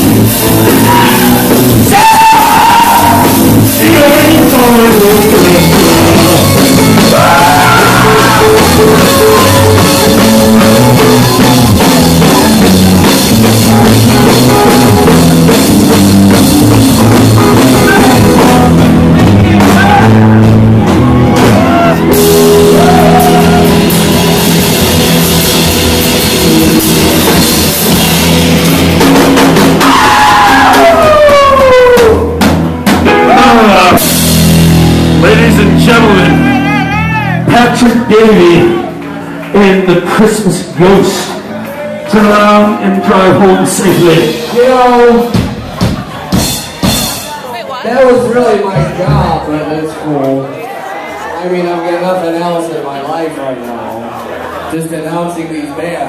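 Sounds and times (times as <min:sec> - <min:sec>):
drum kit: 0:00.0 - 0:39.7, 0:40.4 - 0:49.5
electric guitars: 0:00.0 - 0:47.8.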